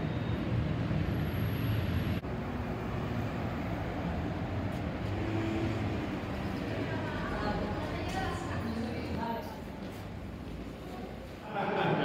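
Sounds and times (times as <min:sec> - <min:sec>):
passing street traffic: 0:00.0 - 0:11.4.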